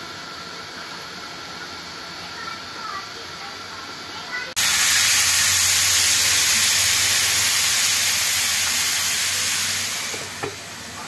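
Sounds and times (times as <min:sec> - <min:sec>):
hot oil sizzling in liquid: 0:00.0 - 0:11.0.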